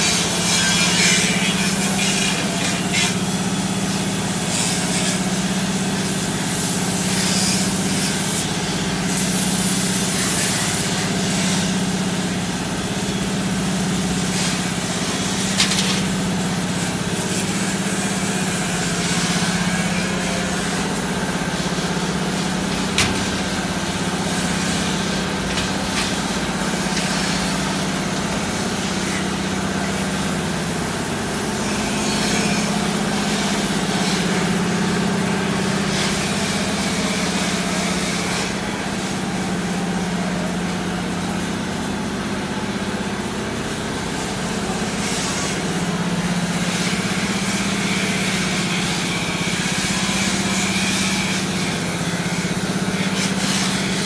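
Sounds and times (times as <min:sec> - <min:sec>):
machinery humming: 0:00.0 - 0:50.5.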